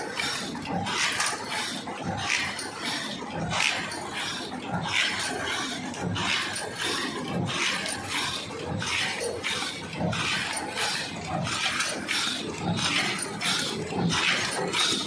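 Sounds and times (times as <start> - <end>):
paper cup machine clatter and hiss: 0.0 - 15.0.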